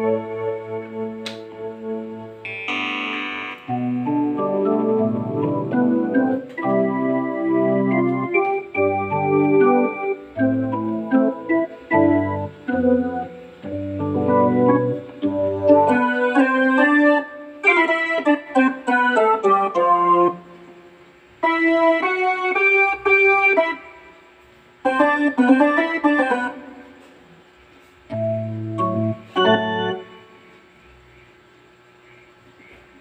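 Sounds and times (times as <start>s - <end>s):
keyboard chords and runs: 0.0s - 20.8s, 21.4s - 24.2s, 24.8s - 27.0s, 28.1s - 30.6s.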